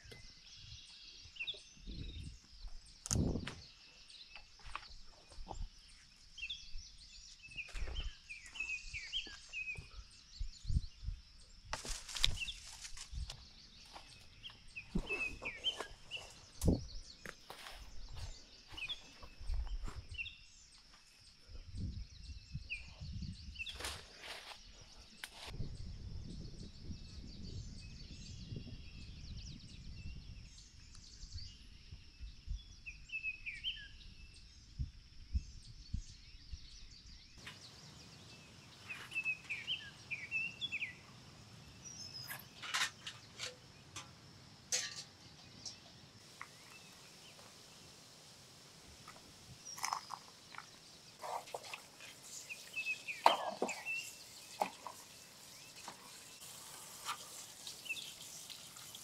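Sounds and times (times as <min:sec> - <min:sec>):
bird chirps: 0:00.0 - 0:11.5, 0:12.2 - 0:48.0, 0:49.1 - 0:56.5.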